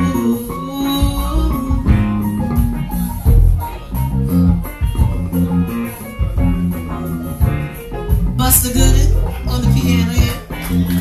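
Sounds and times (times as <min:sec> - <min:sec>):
bass guitar: 0:00.0 - 0:11.0
electric guitar: 0:00.0 - 0:11.0
live band playing: 0:00.0 - 0:11.0.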